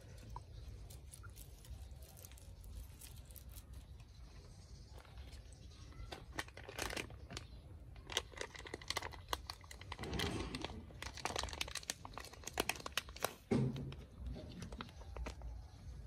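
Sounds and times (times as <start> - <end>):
brittle crinkling and crackling: 0.0 - 16.0.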